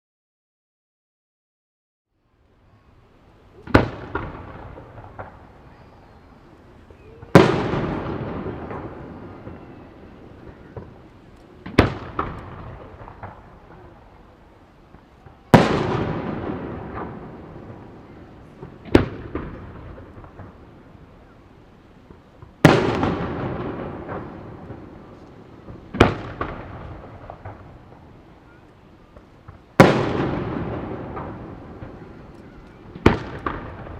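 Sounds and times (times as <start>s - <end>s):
fireworks rumble: 2.3s - 33.9s
small firework pops: 3.6s - 5.9s, 6.8s - 14.2s, 14.8s - 20.7s, 22.0s - 33.9s.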